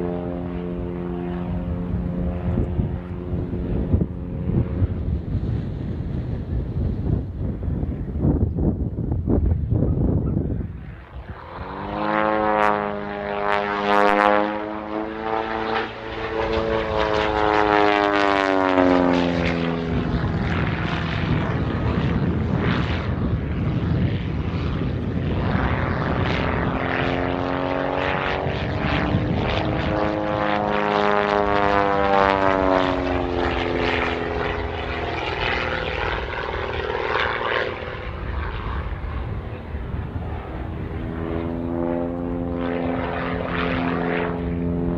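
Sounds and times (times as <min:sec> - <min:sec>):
propeller plane engine: 0:00.0 - 0:44.9.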